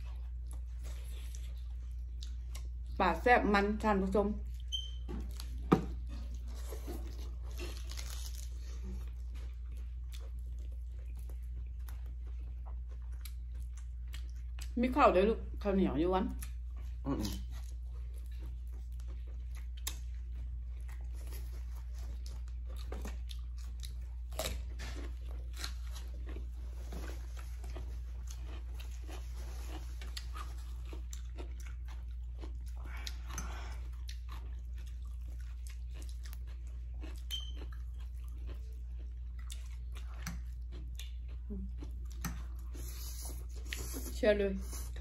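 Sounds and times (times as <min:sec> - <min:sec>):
close-up crunchy chewing: 0:00.0 - 0:03.0, 0:04.4 - 0:14.8, 0:16.3 - 0:45.0.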